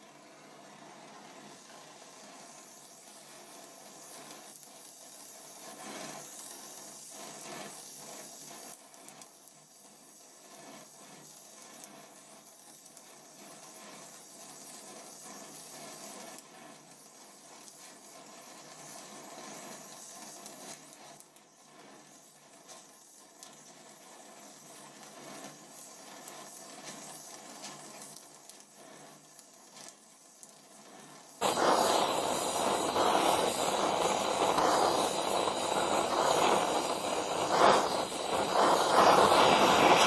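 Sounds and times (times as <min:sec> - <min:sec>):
welding torch flame hissing: 0:00.0 - 0:40.0
sparks crackling: 0:00.9 - 0:40.0.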